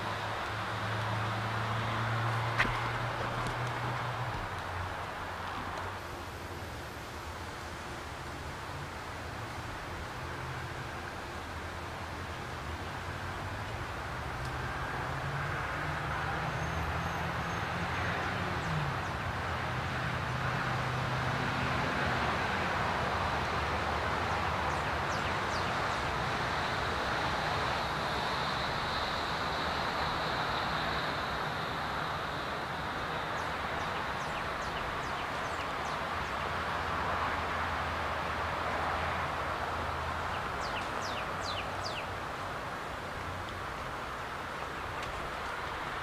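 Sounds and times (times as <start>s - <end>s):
distant road traffic: 0.0s - 46.0s
low engine hum: 0.0s - 46.0s.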